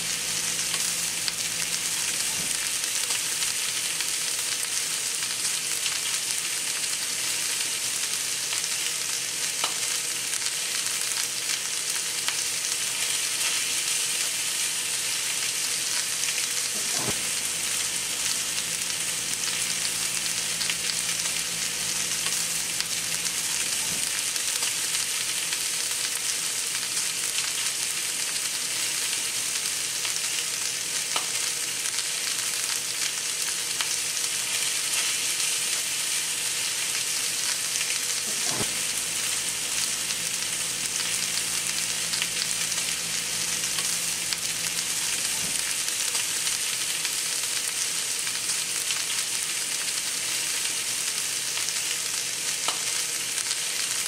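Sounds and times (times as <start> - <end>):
faint popping in pan: 0.0 - 54.0
meat and garlic sizzling in a pan: 0.0 - 54.0.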